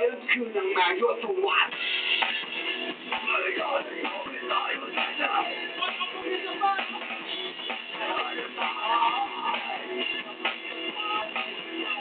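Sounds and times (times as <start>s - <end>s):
rock band playing live: 1.7s - 12.0s.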